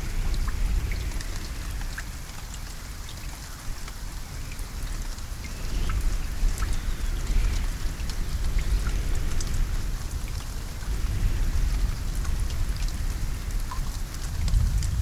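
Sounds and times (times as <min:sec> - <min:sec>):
continuous low rumble: 0:00.0 - 0:15.0
rain drops ticking on a surface: 0:00.0 - 0:15.0.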